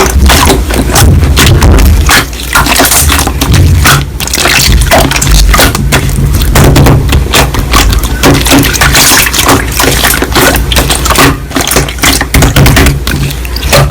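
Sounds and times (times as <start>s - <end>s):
slime squelching by hand: 0.0s - 13.9s.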